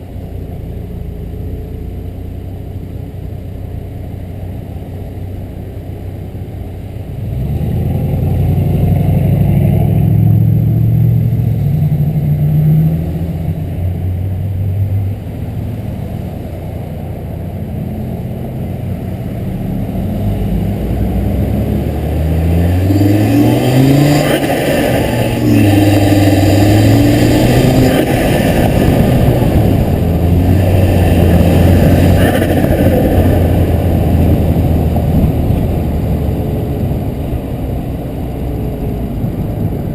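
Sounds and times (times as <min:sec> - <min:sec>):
car engine pulling hard: 0:00.0 - 0:39.9.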